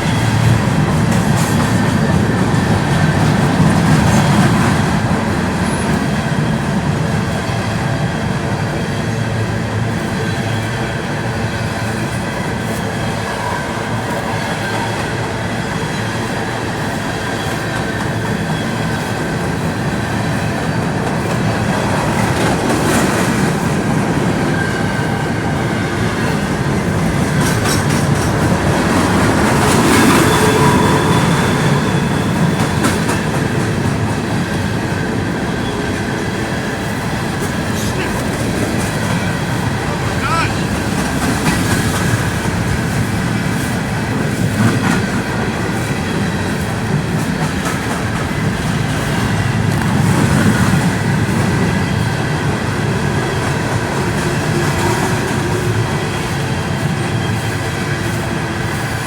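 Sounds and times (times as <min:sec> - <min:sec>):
clickety-clack of rail joints: 0:00.0 - 0:59.0
train wheels rumbling on rail: 0:00.0 - 0:59.0
train wheels squealing: 0:00.0 - 0:59.0.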